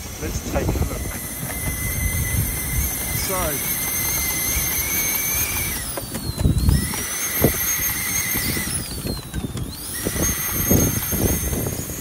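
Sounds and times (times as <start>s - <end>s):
miniature steam locomotive running: 0.0s - 12.0s.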